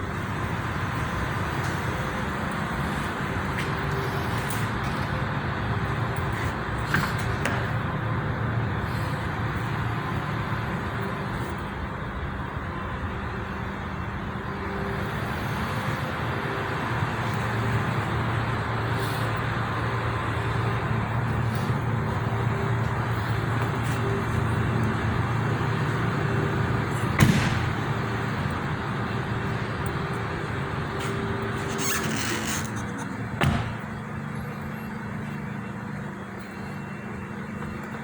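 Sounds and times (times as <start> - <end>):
noisy background: 0.0 - 38.0.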